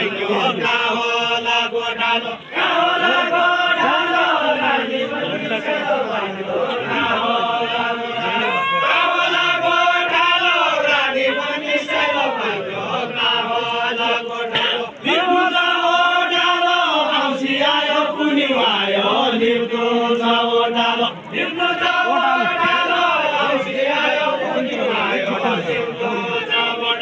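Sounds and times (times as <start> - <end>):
voices chanting folk song: 0.0 - 27.0.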